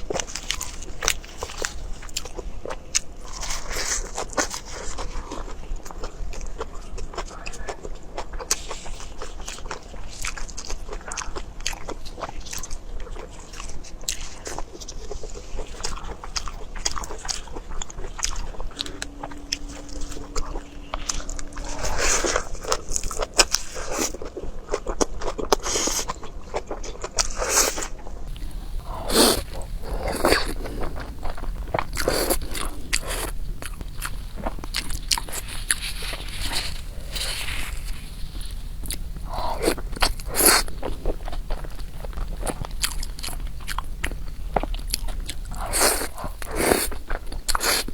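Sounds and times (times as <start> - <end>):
person chewing and biting food: 8.2 - 47.9.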